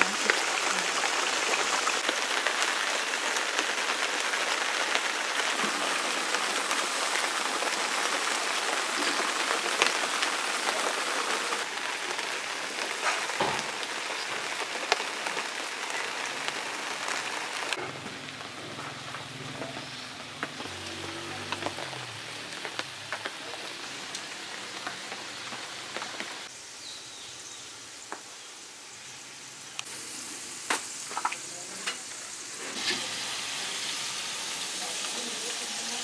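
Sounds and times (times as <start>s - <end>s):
frying oil sizzling: 0.0s - 36.0s
rain hissing: 0.0s - 36.0s.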